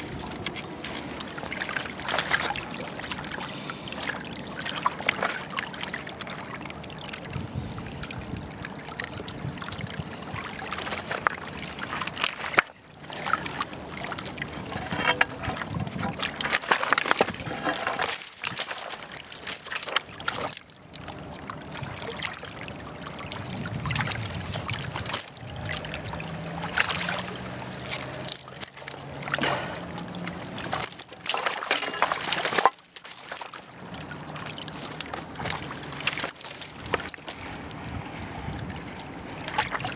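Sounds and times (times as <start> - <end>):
water sloshing and trickling: 0.0 - 39.9.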